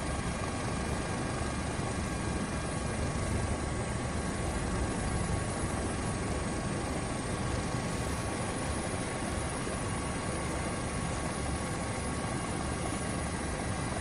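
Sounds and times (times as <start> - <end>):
helicopter rotor rumble: 0.0 - 14.0
high turbine whine: 0.0 - 14.0.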